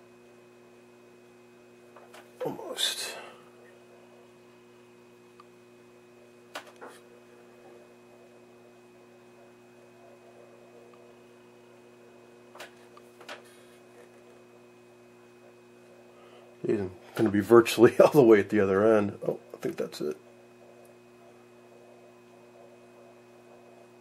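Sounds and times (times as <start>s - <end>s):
faint mains hum: 0.0s - 24.0s.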